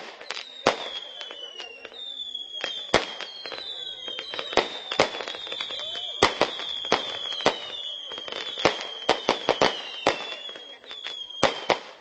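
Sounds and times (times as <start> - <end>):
fireworks bangs and cracks: 0.0 - 12.0
fireworks whistling: 0.0 - 12.0.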